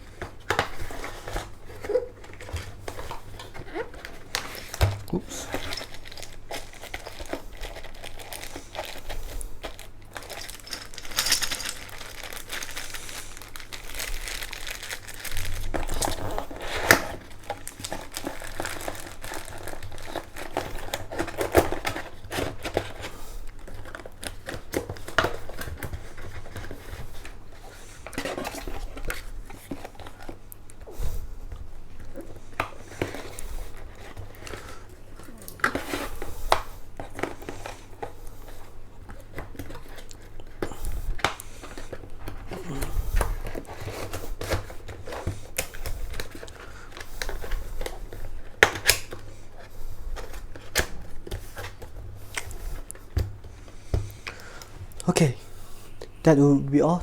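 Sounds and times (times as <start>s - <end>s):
packaging crinkling and rustling: 0.0s - 55.6s.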